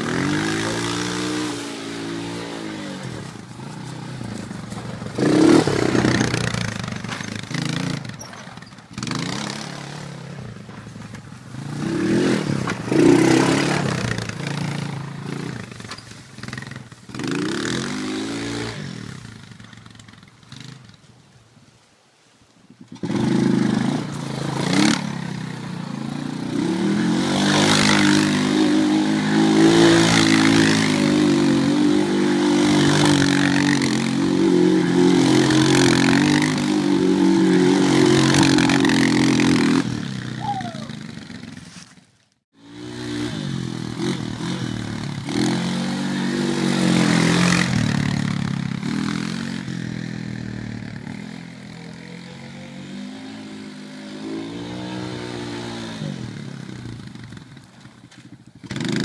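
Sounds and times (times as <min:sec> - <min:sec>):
atv engine revving: 0:00.0 - 0:20.9, 0:22.9 - 0:41.9, 0:42.6 - 0:59.0.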